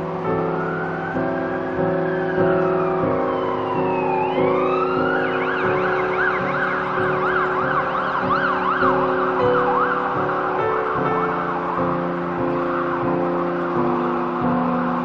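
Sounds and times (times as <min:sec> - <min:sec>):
background music: 0:00.0 - 0:15.0
emergency vehicle siren: 0:00.0 - 0:15.0.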